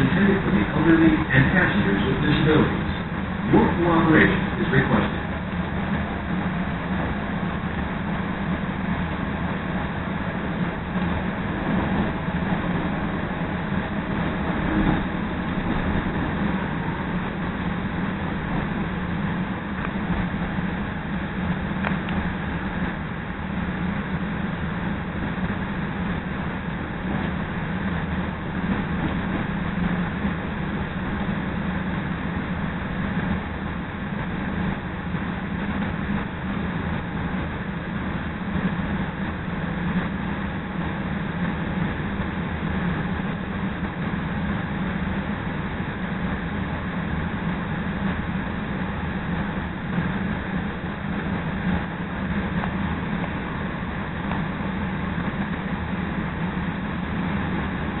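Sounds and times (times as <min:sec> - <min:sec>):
low running hum: 0:00.0 - 0:58.0
train wheels rumbling on rail: 0:00.0 - 0:58.0.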